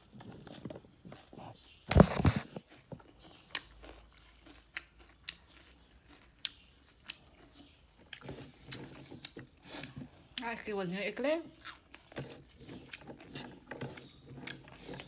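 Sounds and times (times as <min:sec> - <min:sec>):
person chewing: 0:00.0 - 0:10.6, 0:11.6 - 0:15.0.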